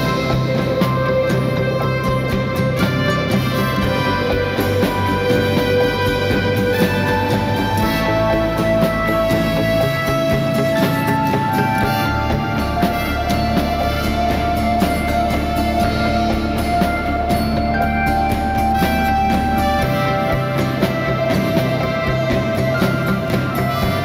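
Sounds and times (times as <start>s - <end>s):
instrumental music with beat: 0.0s - 24.0s.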